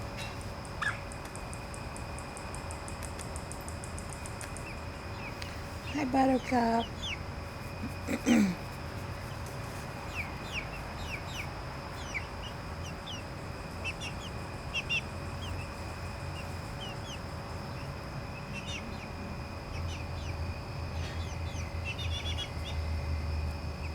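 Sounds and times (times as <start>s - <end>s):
chicks peeping: 3.7s - 23.9s.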